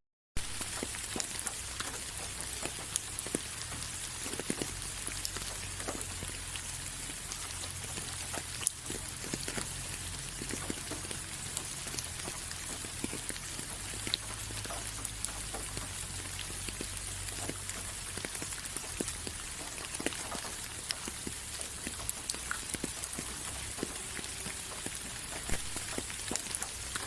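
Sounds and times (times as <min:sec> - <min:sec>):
rain falling: 0:00.4 - 0:27.0
raindrops ticking on hard surface: 0:00.4 - 0:27.0.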